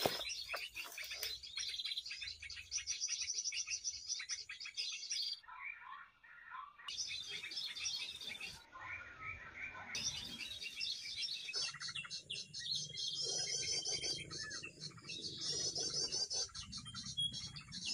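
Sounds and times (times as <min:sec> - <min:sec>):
small birds chirping and trilling: 0:00.0 - 0:17.9.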